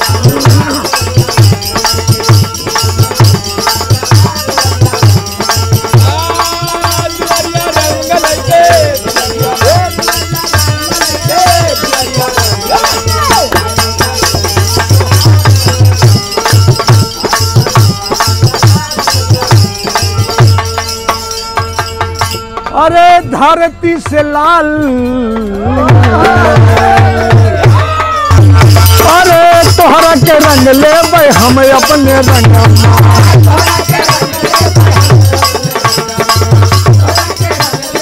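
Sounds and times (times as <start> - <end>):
jingle clappers and tambourine: 0.0 - 22.8, 24.8 - 38.0
dholak fast rhythm: 0.0 - 38.0
harmonium chords: 0.0 - 38.0.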